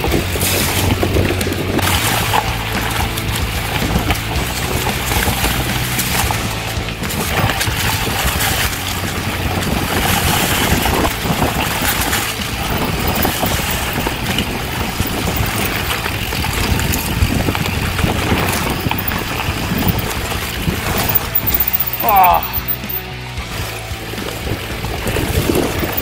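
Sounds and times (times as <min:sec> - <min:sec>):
bike rattling and knocking: 0:00.0 - 0:26.0
tyres rolling over leaves and dirt: 0:00.0 - 0:26.0
wind rushing over microphone: 0:00.0 - 0:26.0.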